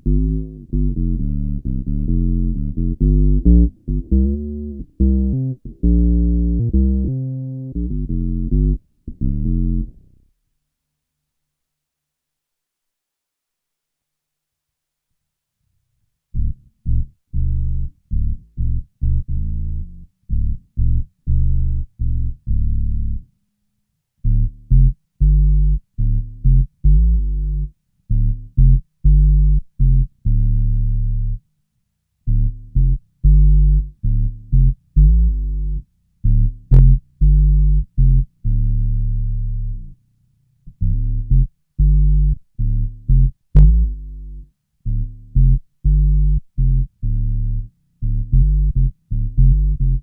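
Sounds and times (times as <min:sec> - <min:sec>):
low bass guitar notes: 0:00.0 - 0:10.2, 0:16.4 - 0:23.3, 0:24.2 - 0:31.4, 0:32.3 - 0:40.0, 0:40.7 - 0:50.0.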